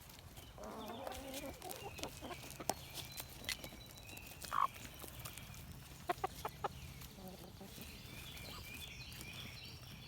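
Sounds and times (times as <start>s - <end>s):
chickens clucking: 0.1s - 9.8s.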